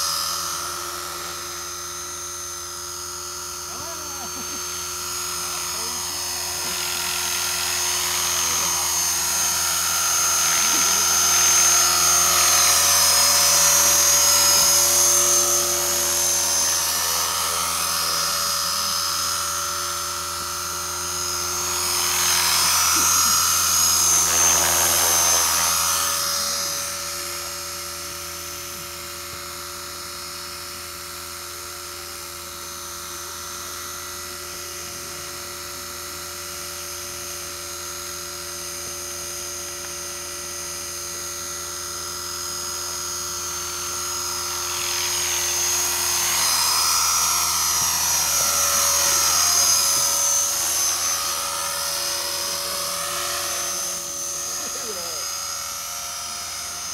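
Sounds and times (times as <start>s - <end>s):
rc helicopter whining: 0.0s - 56.9s.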